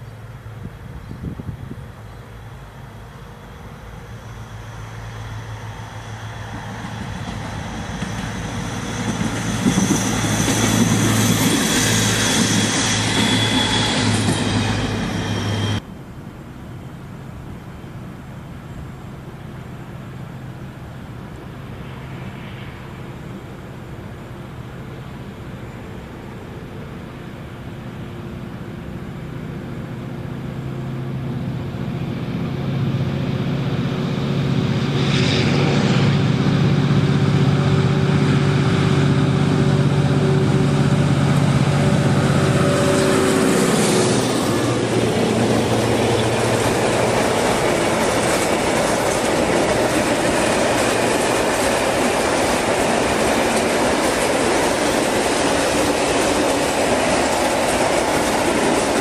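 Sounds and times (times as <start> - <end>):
diesel locomotive engine drone: 0.0 - 59.0
freight wagons rumbling on rails: 0.0 - 59.0.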